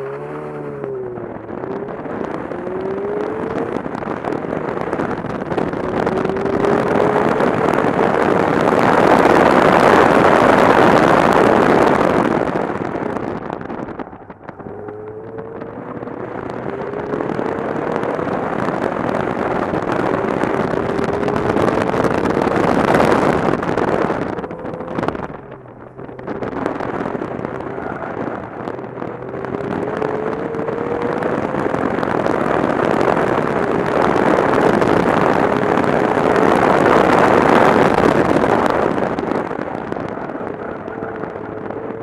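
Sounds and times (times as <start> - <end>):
car engine revving through gears: 0.0 - 13.8, 14.5 - 42.0
wind rush on microphone: 0.0 - 42.0.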